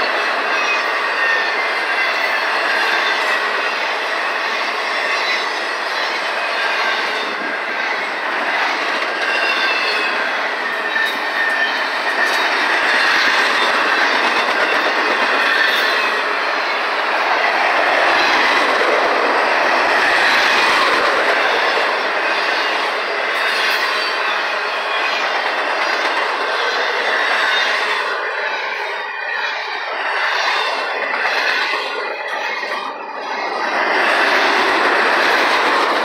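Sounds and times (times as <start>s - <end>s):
high wheel squeal: 0.0s - 18.6s, 20.0s - 36.0s
freight train wheels clattering: 0.0s - 29.0s, 29.8s - 36.0s.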